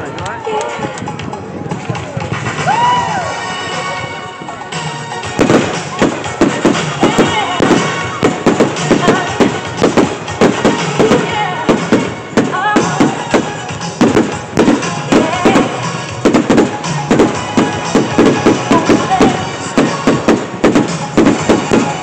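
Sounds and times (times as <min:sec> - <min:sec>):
firework bangs and crackles: 0:00.0 - 0:22.0
music playing: 0:00.0 - 0:22.0.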